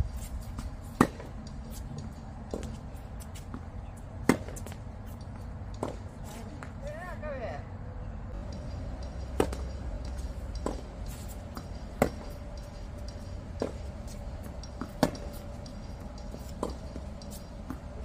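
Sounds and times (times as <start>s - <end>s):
tennis balls struck by rackets: 0.4s - 6.9s, 8.4s - 18.0s.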